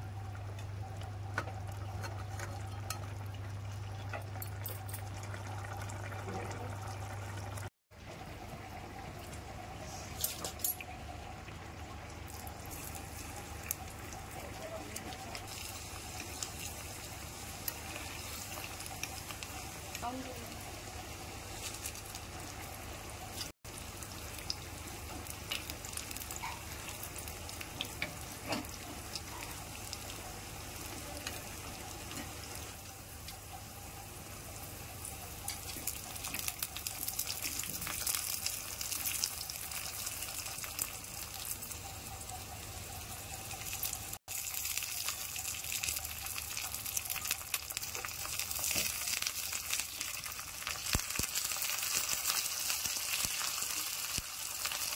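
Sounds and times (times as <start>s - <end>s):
hot oil sizzling and crackling: 0.0s - 54.9s.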